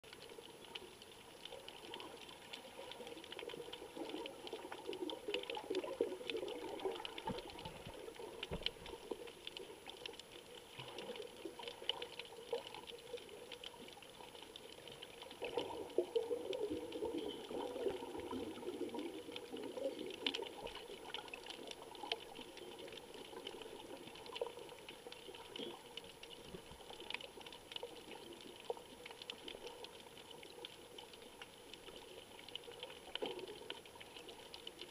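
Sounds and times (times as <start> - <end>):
bubbly gurgling water: 0.0 - 34.9
crackle of small underwater clicks: 0.0 - 34.9
faint water noise: 0.0 - 34.9.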